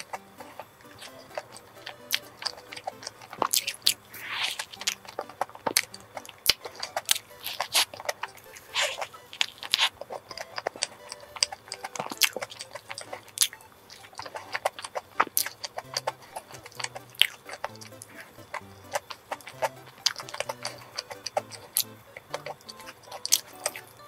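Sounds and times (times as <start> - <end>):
crunchy chewing: 0.0 - 24.0
wet mouth sounds: 0.0 - 24.0.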